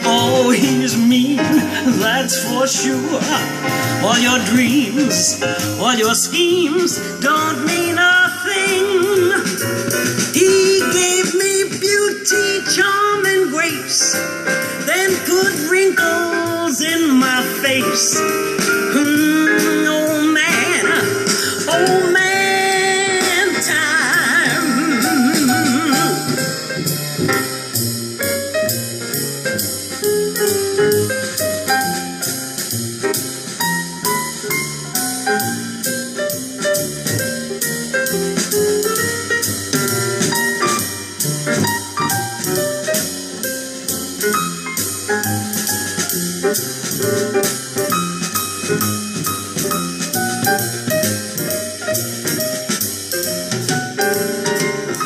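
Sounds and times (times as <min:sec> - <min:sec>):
instrumental jazz through car speakers: 0:00.0 - 0:55.0.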